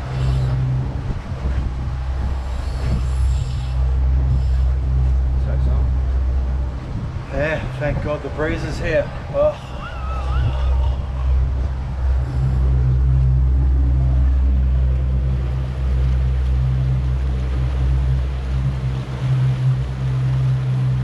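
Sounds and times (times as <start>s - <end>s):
outboard motors droning: 0.0s - 21.0s
water rushing from wake: 0.0s - 21.0s
wind: 0.0s - 21.0s.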